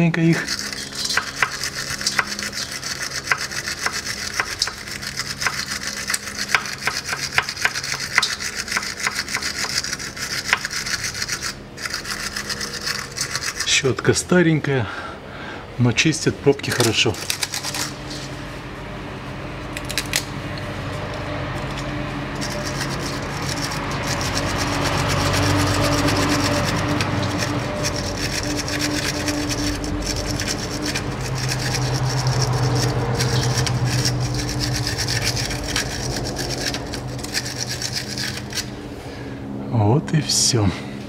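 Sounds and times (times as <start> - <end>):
brush scrubbing metal: 0.3 - 14.2, 16.6 - 18.6, 20.9 - 39.1.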